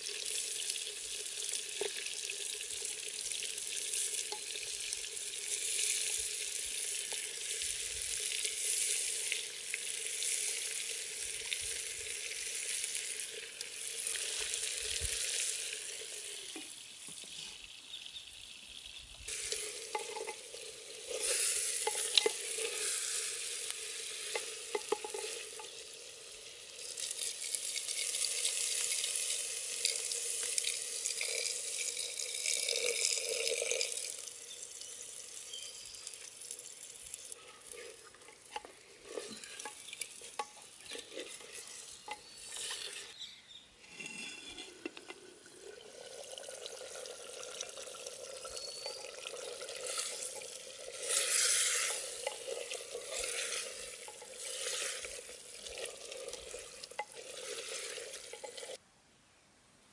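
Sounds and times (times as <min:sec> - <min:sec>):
soup simmering in a pot: 0:00.0 - 0:43.2, 0:43.8 - 0:58.8
water pouring into a pot: 0:00.0 - 0:43.2, 0:44.2 - 0:58.8.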